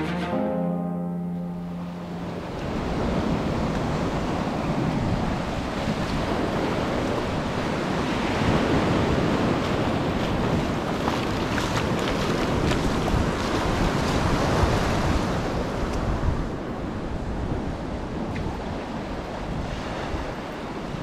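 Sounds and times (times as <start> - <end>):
sea surf washing on beach: 1.8 - 21.0
wind buffeting microphone: 2.4 - 21.0.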